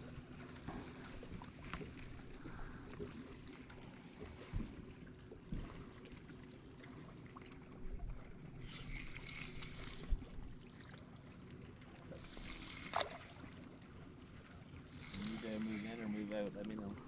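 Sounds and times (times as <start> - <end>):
boat low rumble: 0.0 - 17.0
water splashing: 0.0 - 17.0.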